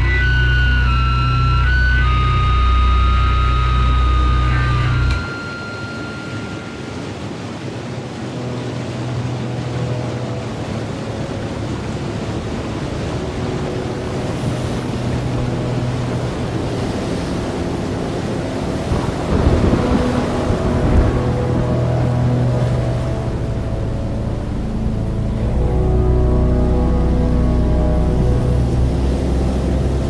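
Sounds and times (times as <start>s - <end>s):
held low notes: 0.0s - 7.4s, 8.1s - 30.0s
dense hissing wash: 0.0s - 30.0s.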